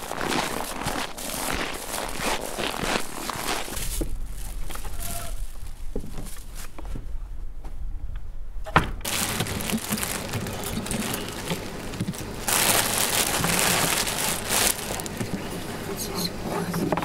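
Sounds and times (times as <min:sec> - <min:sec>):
plastic bags rustling: 0:00.0 - 0:06.8, 0:09.0 - 0:16.0.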